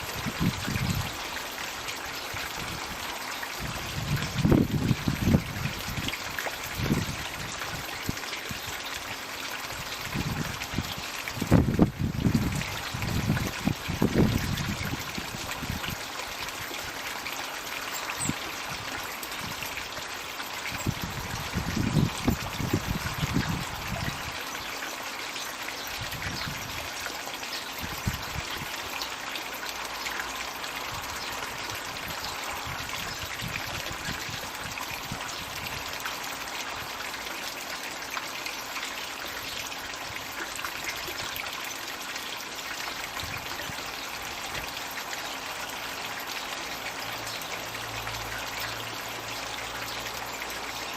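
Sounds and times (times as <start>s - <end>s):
water pouring into pond: 0.0s - 50.9s.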